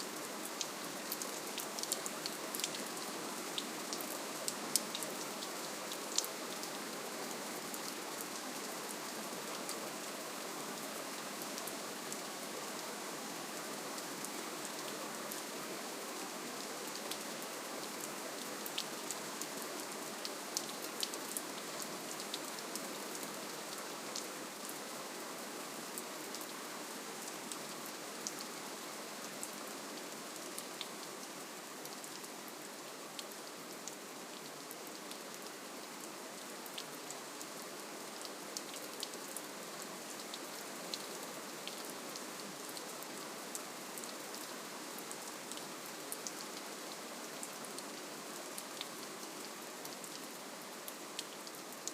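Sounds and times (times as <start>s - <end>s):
gentle rain pattering: 0.0s - 51.9s.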